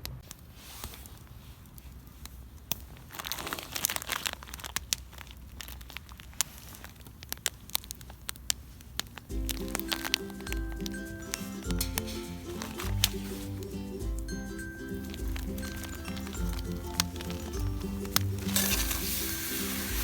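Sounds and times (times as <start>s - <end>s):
crinkling rustle: 0.2s - 20.0s
campfire crackling and popping: 1.2s - 20.0s.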